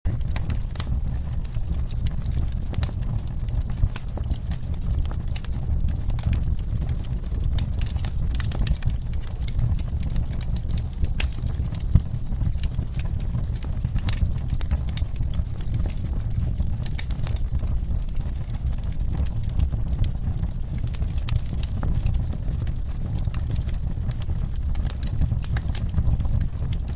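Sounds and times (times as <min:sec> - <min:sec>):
wood fire crackling: 0:00.1 - 0:26.9.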